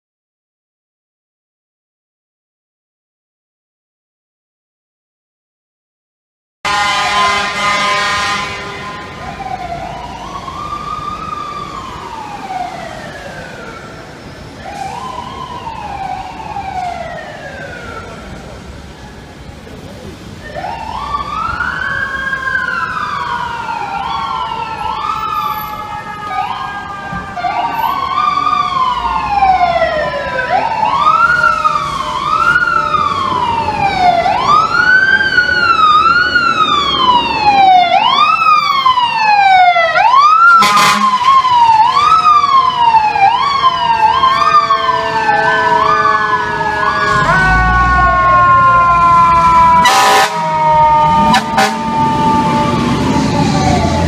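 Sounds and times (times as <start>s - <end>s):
fire truck sirens wailing: 6.6s - 54.0s.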